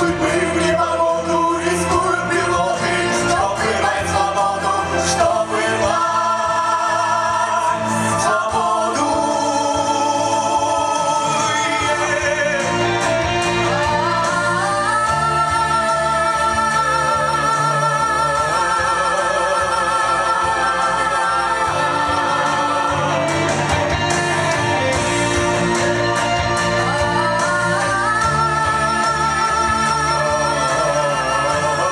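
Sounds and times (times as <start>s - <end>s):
instrumental backing: 0.0s - 31.9s
singing with vibrato: 0.0s - 31.9s.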